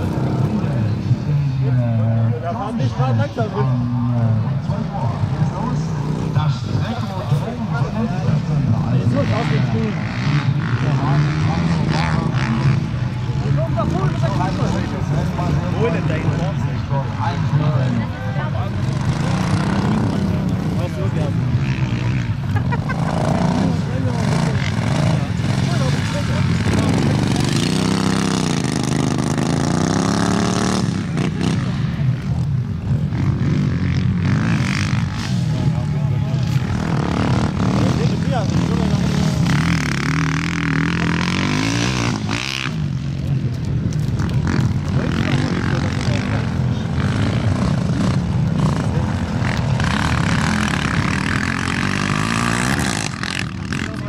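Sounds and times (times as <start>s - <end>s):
small racing engines: 0.0s - 54.0s.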